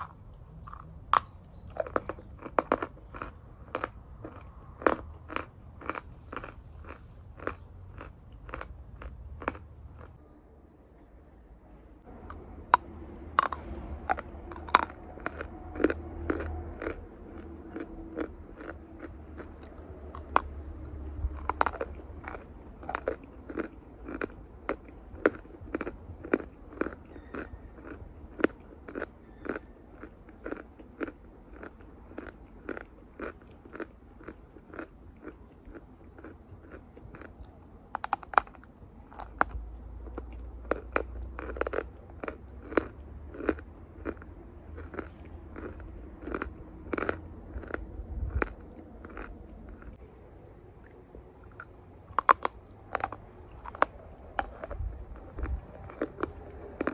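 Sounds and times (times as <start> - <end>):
crunchy chewing: 0.0 - 10.2, 12.1 - 50.1, 50.8 - 56.9.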